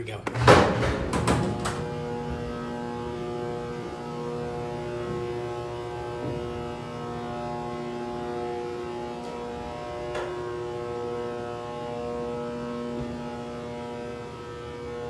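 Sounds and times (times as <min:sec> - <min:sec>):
elevator machinery humming: 0:00.4 - 0:15.0.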